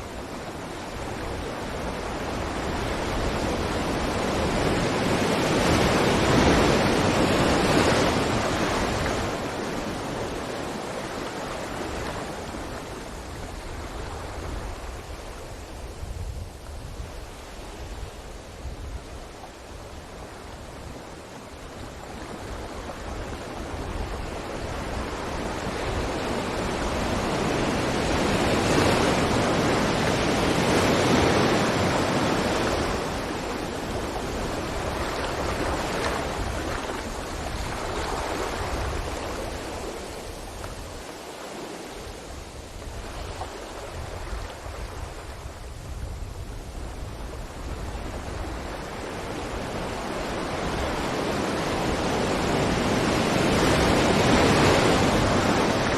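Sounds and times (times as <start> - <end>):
ocean waves breaking: 0.0 - 15.8, 19.4 - 45.5, 47.0 - 55.9.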